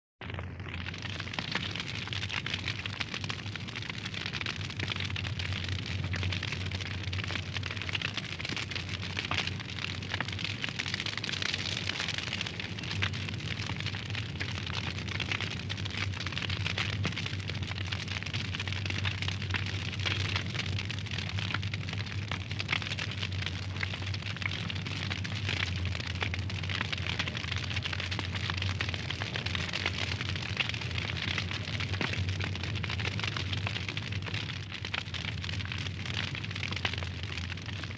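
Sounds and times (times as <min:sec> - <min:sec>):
wood fire crackling: 0:00.2 - 0:37.9.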